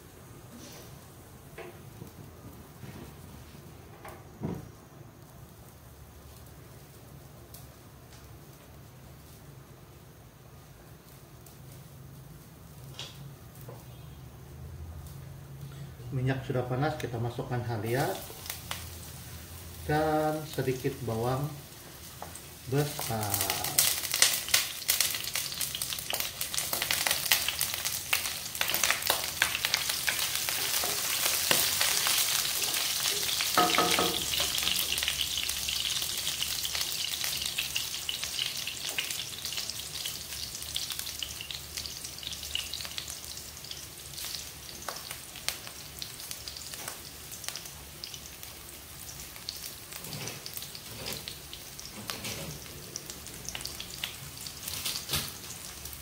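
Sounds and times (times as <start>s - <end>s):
onion sizzling in hot oil: 5.2s - 56.0s.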